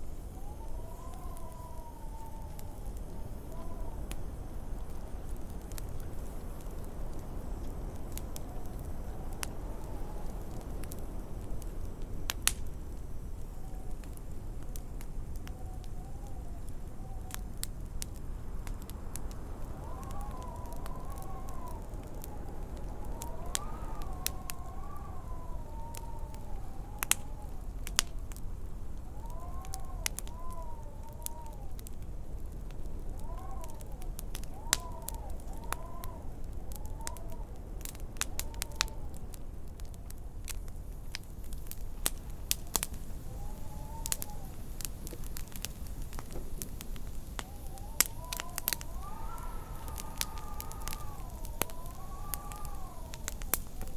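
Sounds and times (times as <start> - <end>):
wind howling in gusts: 0.0 - 53.9
wood fire crackling and popping: 0.0 - 53.9.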